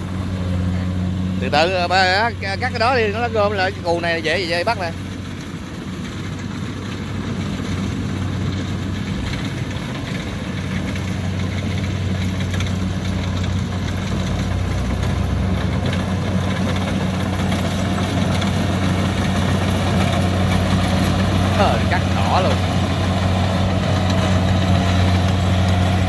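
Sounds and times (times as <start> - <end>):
combine harvester engine running: 0.0 - 26.0.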